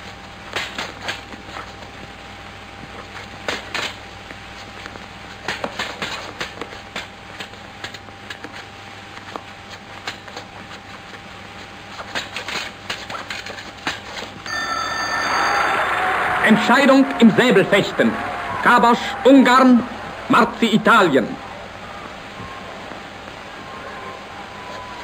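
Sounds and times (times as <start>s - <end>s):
film soundtrack hum and hiss: 0.0s - 25.0s.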